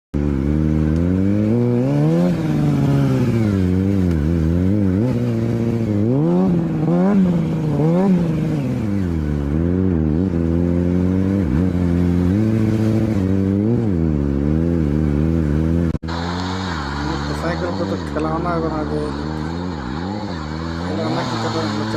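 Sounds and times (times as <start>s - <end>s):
motorcycle engine revving: 0.1s - 21.9s.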